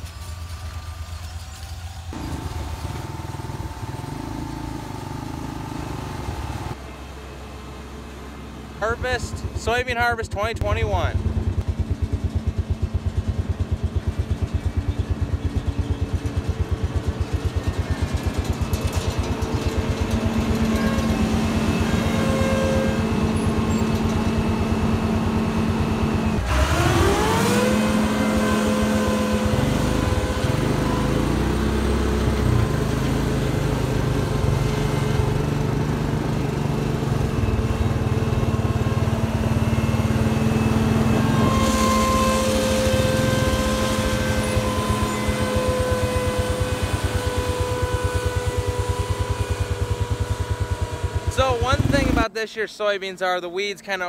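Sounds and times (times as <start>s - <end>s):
farm machine engine idling and revving: 0.0s - 53.0s.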